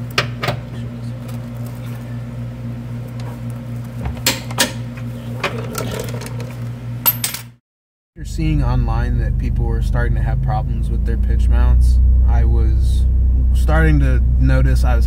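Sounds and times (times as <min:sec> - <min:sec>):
low mechanical hum: 0:00.0 - 0:07.6, 0:08.2 - 0:15.0.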